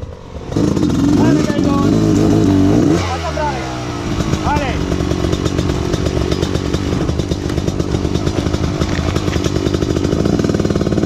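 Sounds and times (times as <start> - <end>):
off-road motorcycle engine under load: 0.0 - 11.0.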